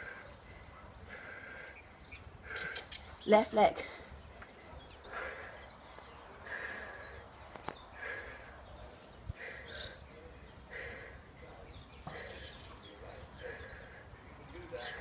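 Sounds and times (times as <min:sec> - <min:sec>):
rhythmic breathing: 0:00.0 - 0:03.2, 0:03.8 - 0:15.0
faint outdoor background noise: 0:00.0 - 0:15.0.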